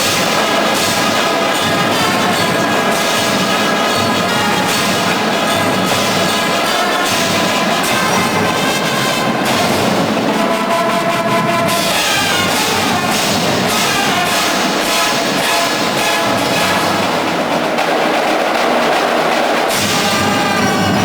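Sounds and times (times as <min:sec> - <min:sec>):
brass ensemble playing: 0:00.0 - 0:21.0
marching percussion beat: 0:00.0 - 0:21.0.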